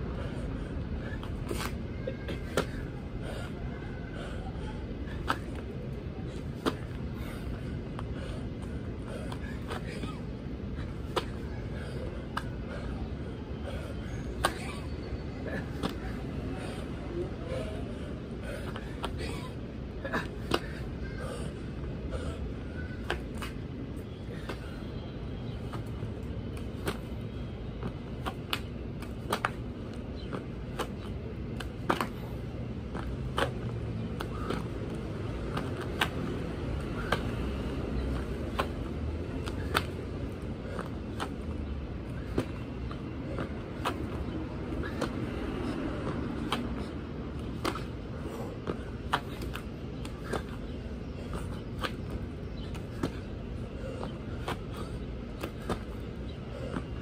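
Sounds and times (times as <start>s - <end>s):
low traffic rumble: 0.0s - 57.0s.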